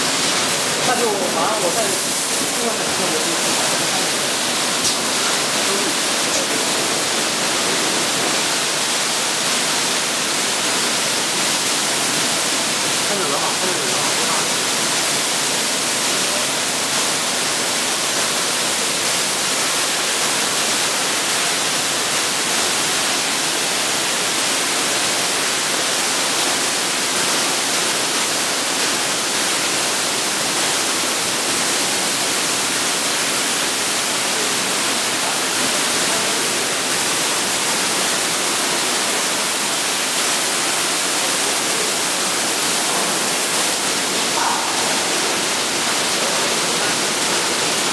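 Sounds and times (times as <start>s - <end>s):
water spray jets hissing: 0.0s - 24.3s, 25.6s - 47.9s.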